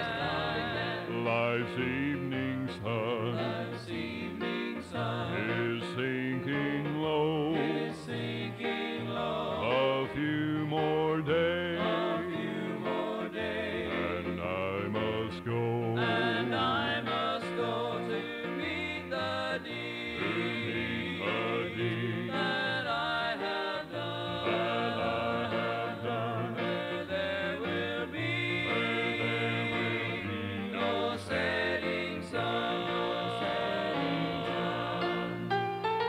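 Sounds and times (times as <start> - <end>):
vocal quartet singing a hymn: 0.0 - 36.0.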